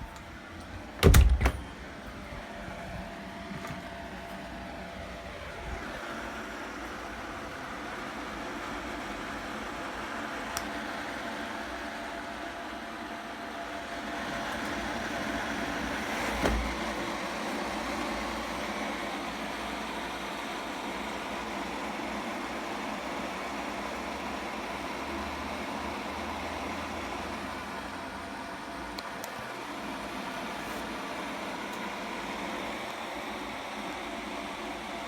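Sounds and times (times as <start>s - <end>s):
cooling fans running: 0.0s - 35.0s.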